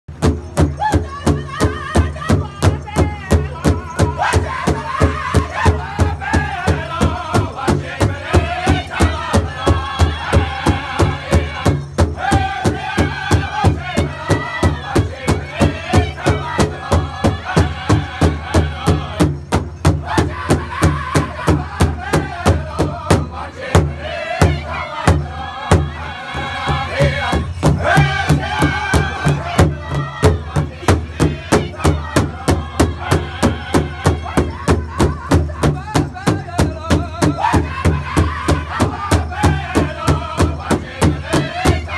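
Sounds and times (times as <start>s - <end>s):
bass drum beating in unison: 0.1s - 41.9s
drum group singing: 0.1s - 41.9s.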